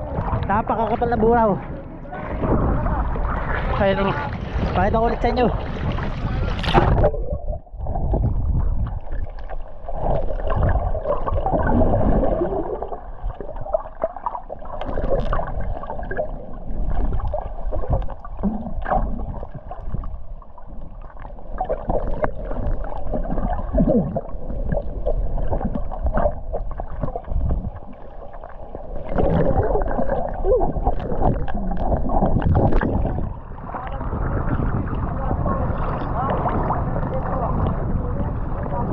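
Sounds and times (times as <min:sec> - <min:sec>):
sea water sloshing and gurgling: 0:00.0 - 0:38.9.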